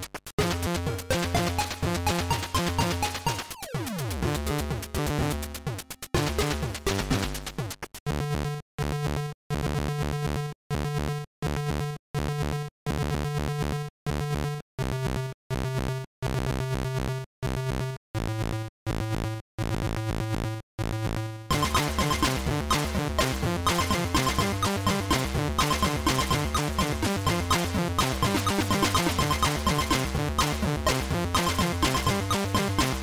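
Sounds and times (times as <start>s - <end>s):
chiptune computer music: 0.4s - 15.2s, 21.1s - 33.0s.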